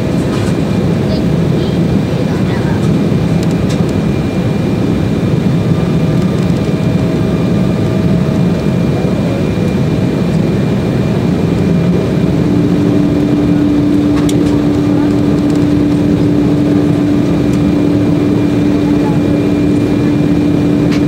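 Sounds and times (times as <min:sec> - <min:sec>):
airplane cabin roar: 0:00.0 - 0:21.0.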